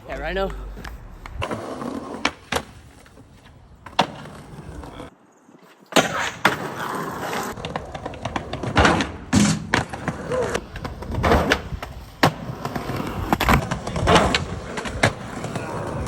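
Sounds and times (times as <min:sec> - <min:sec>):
skateboard wheels rolling on concrete: 0:00.0 - 0:16.0
skateboard clacking on ground: 0:00.1 - 0:16.0.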